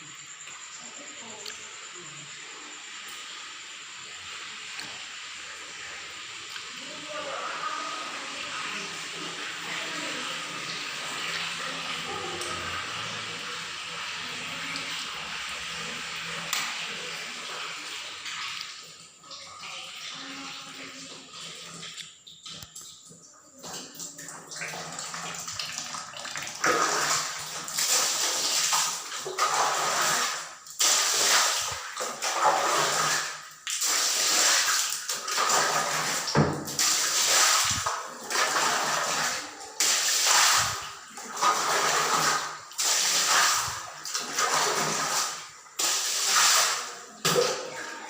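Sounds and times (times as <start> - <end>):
rushing water: 6.4 - 22.6, 23.6 - 48.0.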